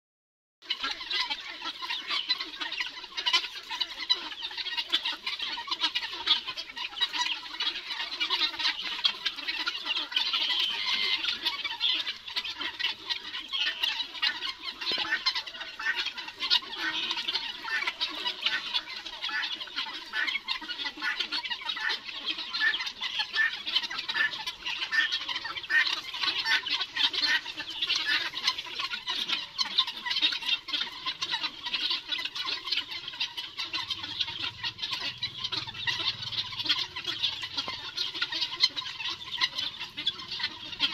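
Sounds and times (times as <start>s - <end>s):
guineafowl squawking: 0.6s - 40.9s.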